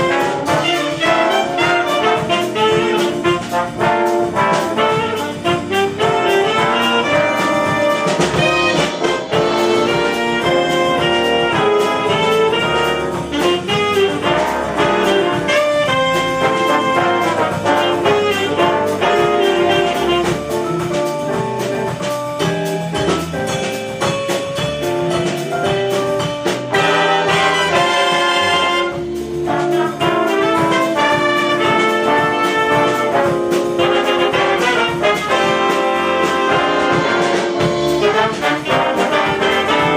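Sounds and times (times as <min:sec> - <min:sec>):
big band jazz with horns: 0:00.0 - 0:39.9.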